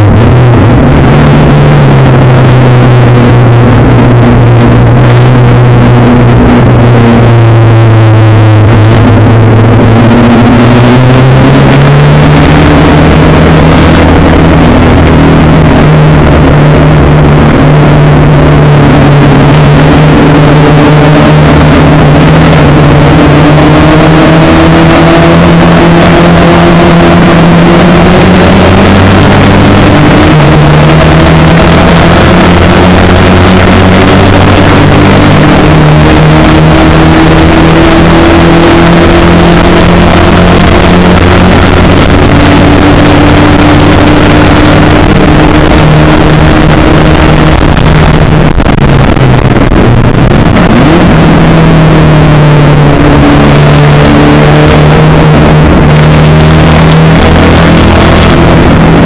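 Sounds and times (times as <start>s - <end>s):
race car engine at high revs: 0.0s - 59.0s
wind and road noise: 0.0s - 59.0s.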